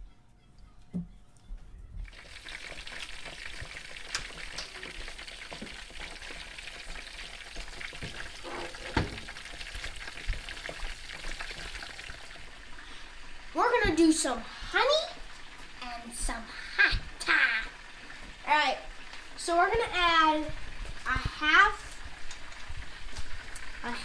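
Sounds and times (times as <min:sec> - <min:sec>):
chicken frying in bubbling oil: 0:02.0 - 0:24.0.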